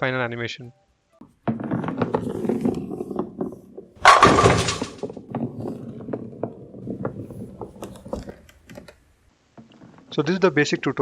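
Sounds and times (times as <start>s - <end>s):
bowling pins crashing and clattering: 1.2s - 10.1s
bowling ball rolling: 1.2s - 11.0s.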